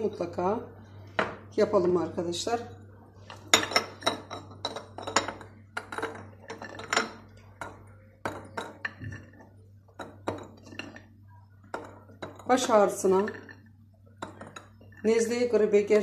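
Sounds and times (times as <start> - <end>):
glass jars clinking: 1.2 - 15.8.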